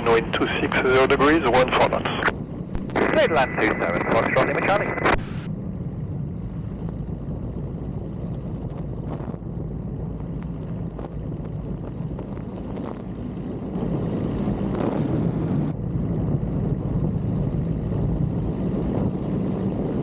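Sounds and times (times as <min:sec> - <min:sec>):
airplane engine and propeller drone: 0:00.0 - 0:20.0
wind noise: 0:00.0 - 0:20.0.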